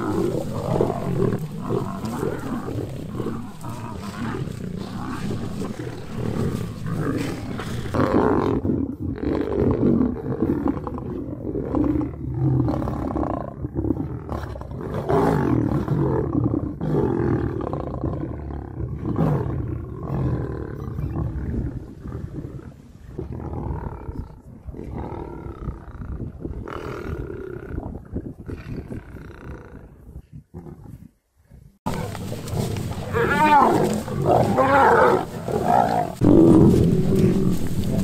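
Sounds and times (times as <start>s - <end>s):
lions roaring while fighting: 0.0s - 27.9s, 31.9s - 38.0s.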